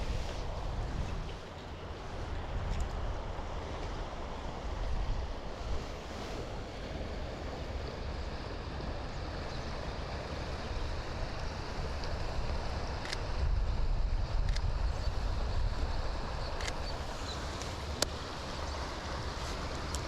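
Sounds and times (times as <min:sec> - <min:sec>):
wind in trees: 0:00.0 - 0:20.0
wind rumbling on microphone: 0:00.0 - 0:20.0.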